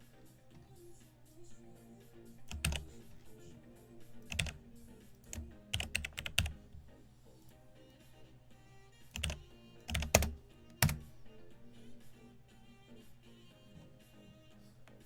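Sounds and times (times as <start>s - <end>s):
keyboard keys clacking: 0.0s - 8.1s, 8.9s - 15.0s
quiet background music: 0.0s - 15.0s.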